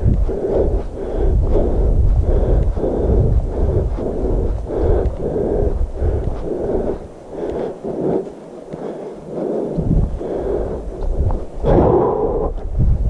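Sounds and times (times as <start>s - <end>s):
fast rhythmic breathing: 0.0s - 13.0s
wind rumble on microphone: 0.0s - 13.0s.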